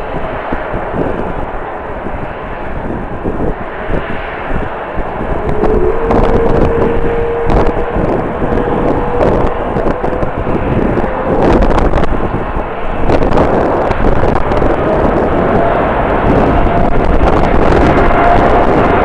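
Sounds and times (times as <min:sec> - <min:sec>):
jet engine whine: 0:00.0 - 0:19.0
wind buffeting microphone: 0:00.0 - 0:19.0.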